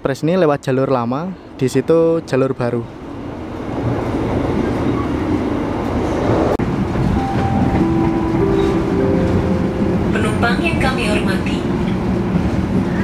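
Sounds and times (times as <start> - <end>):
train wheels rumbling on rail: 1.5 - 13.0.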